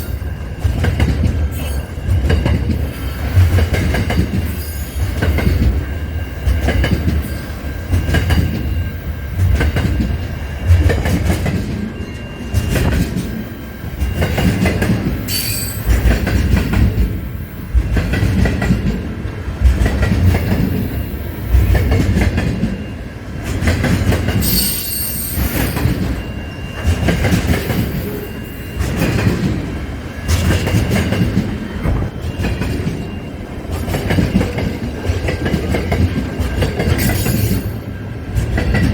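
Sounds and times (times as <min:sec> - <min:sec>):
wheel squealing on rail: 0:00.0 - 0:19.0, 0:20.2 - 0:38.9
train rumbling past: 0:00.0 - 0:38.9.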